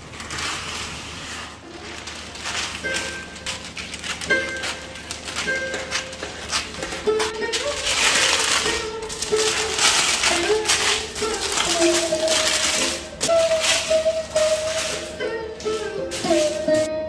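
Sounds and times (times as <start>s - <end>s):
instrumental music with shaker beat: 2.0s - 17.0s.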